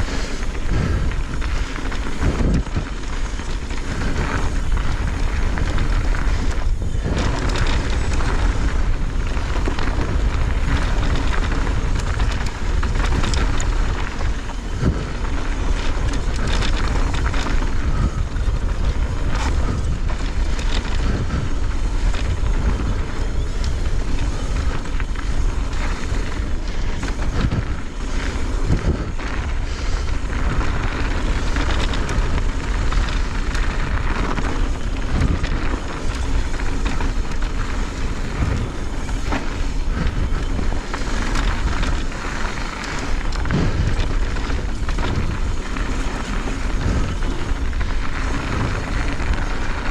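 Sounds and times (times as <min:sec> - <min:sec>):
bike clattering over bumps: 0:00.0 - 0:49.9
tyres running over dirt: 0:00.0 - 0:49.9
wind rush on microphone: 0:00.0 - 0:49.9.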